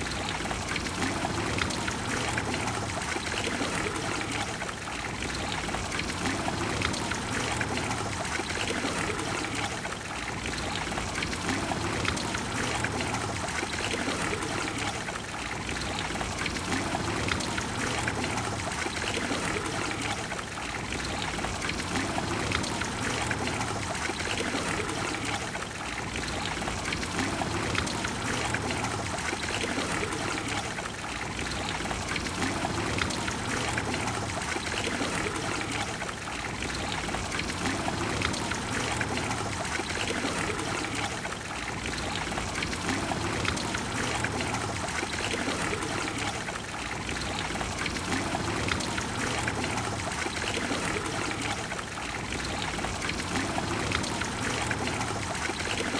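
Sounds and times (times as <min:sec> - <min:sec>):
fountain water pouring into basin: 0:00.0 - 0:55.9.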